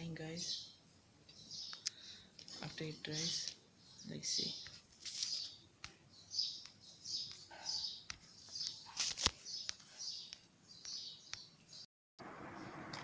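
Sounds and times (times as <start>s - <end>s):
small bird chirping: 0.0s - 11.9s.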